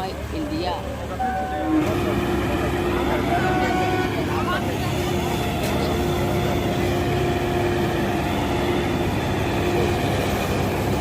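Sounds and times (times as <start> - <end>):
diesel engine rumbling: 0.0 - 11.0
engine whine: 0.0 - 11.0.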